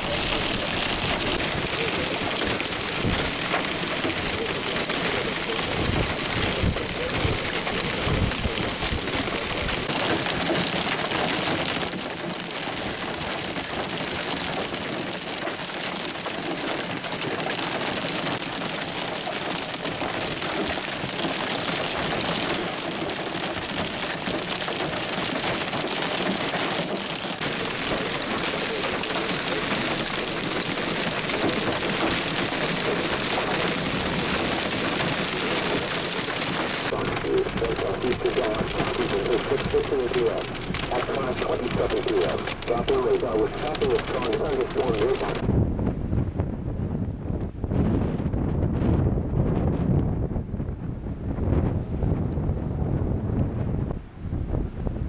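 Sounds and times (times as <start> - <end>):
heavy rain and hail: 0.0 - 50.7.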